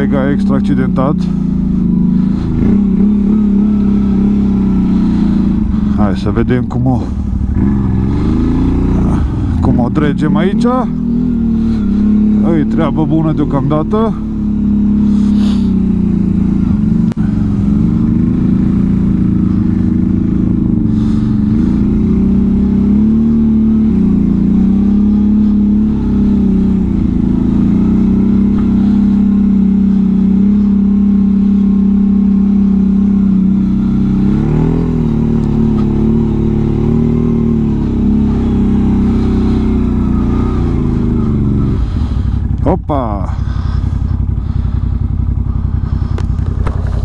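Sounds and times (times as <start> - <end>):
atv engine running under load: 0.0 - 47.0.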